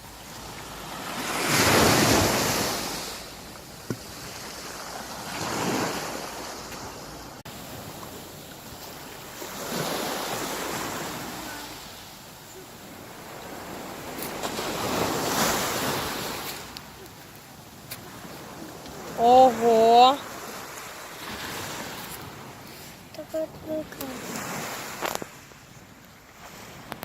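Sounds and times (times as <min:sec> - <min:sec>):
sea waves breaking on shore: 0:00.0 - 0:27.0.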